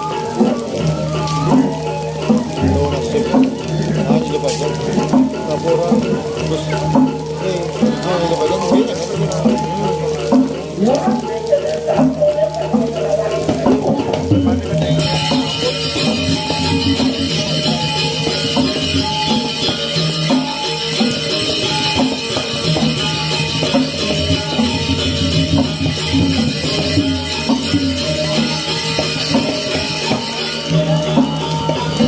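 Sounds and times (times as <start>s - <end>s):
gamelan music: 0.0s - 32.0s
small cymbals jingling: 0.0s - 32.0s
struck pitched metal notes: 0.0s - 32.0s.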